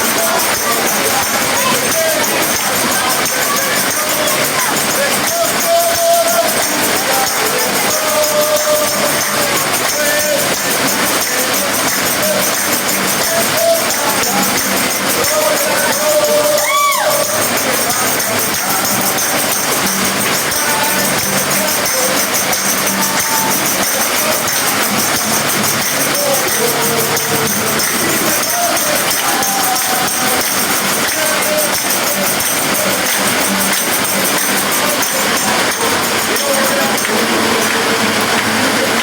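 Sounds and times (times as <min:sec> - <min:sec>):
faint voices: 0:00.0 - 0:39.0
tambourines jingling: 0:00.0 - 0:39.0
worship music: 0:00.0 - 0:39.0.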